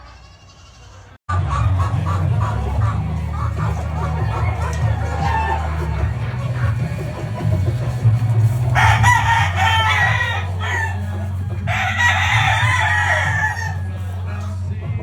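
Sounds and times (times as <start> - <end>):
roosters crowing: 0.0 - 15.0
steady low hum: 1.4 - 15.0.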